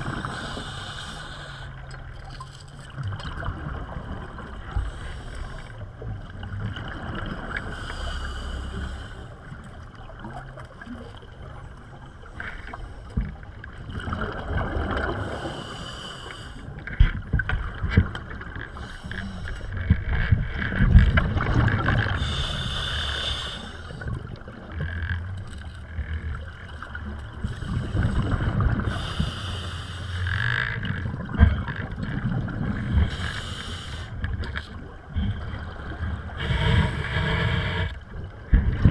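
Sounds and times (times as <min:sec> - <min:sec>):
low rumble of moving water: 0:00.0 - 0:38.9.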